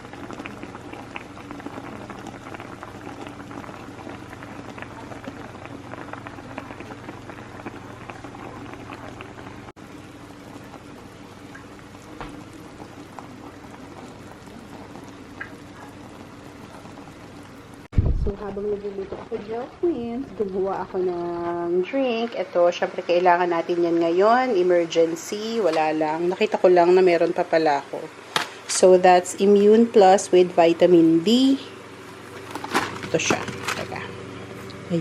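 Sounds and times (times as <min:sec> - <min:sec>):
broth boiling and bubbling: 0:00.0 - 0:35.0
low hum: 0:00.0 - 0:35.0.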